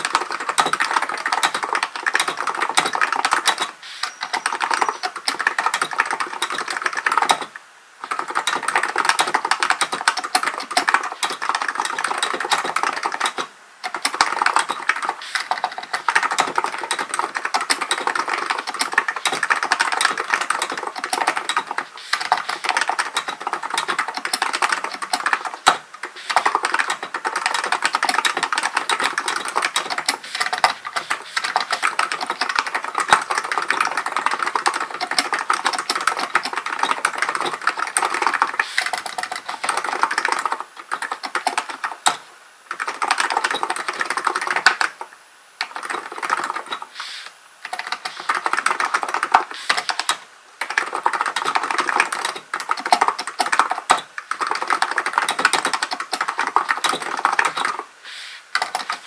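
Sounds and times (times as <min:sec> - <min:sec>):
fast keyboard typing: 0:00.0 - 0:46.9, 0:47.6 - 0:57.9, 0:58.6 - 0:59.0.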